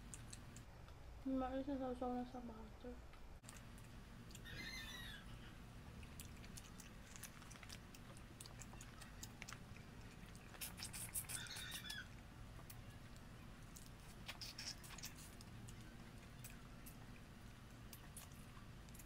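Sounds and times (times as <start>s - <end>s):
wet chewing sounds: 0.0s - 0.7s, 3.4s - 19.0s.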